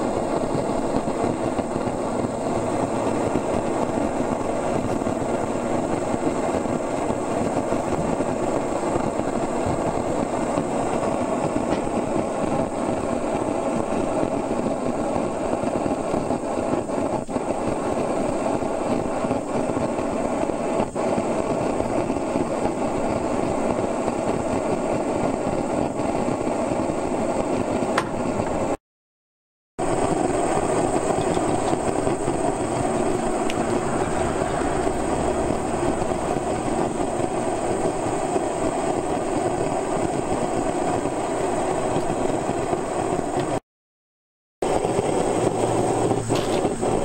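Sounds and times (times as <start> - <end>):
engine running steadily: 0.0 - 28.8, 29.8 - 43.6, 44.6 - 47.0.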